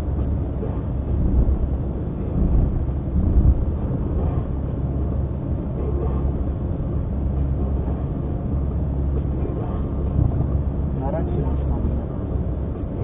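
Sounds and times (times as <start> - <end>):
car engine rumble: 0.0 - 13.0
tyres on road: 0.0 - 13.0.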